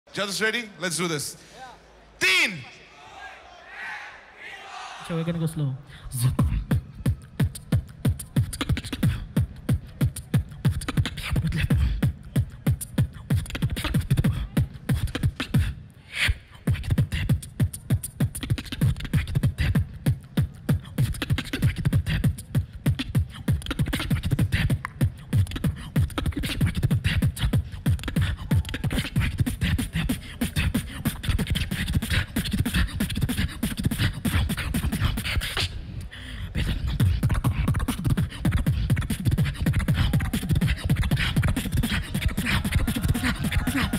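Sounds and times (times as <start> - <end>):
person beatboxing into microphone: 5.9 - 43.9.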